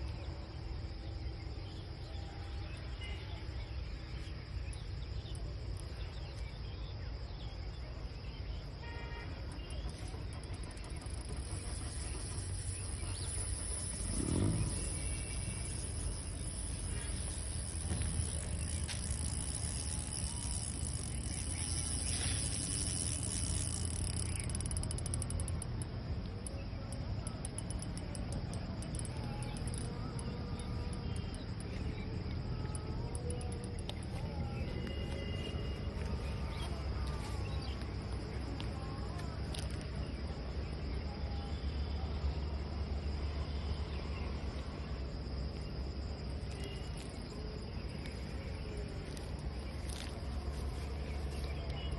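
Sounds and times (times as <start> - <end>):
crickets trilling: 0.0 - 51.9
low rumble: 9.9 - 51.9.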